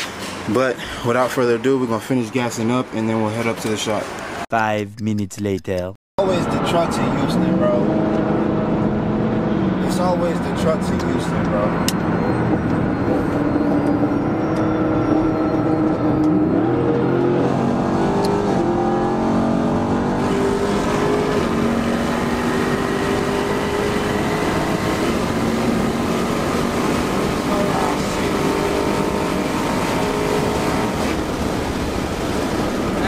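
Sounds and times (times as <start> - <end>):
car engine accelerating: 6.2 - 33.0
road noise inside car: 6.2 - 33.0.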